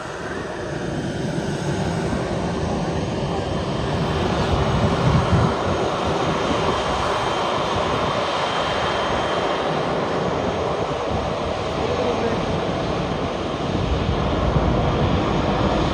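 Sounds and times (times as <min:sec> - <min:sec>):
jet engines running: 0:00.0 - 0:15.9.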